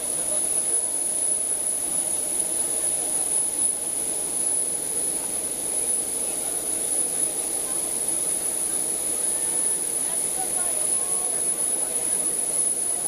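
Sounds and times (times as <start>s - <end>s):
jet engine whine and rumble: 0.0s - 13.0s.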